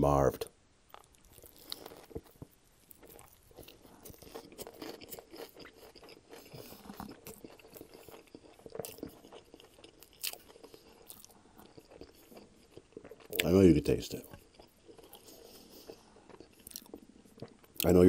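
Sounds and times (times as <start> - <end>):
person chewing food: 0.9 - 18.0.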